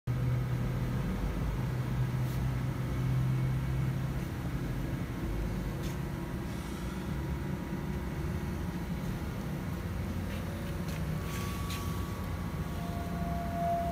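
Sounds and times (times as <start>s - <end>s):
low machine hum: 0.1s - 13.9s.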